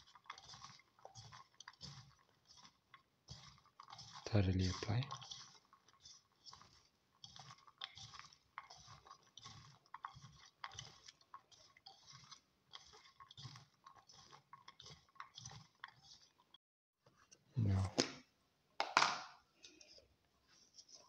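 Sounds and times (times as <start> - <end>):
hand squishing wet vegetable slices: 0.0 - 16.6, 19.5 - 21.0.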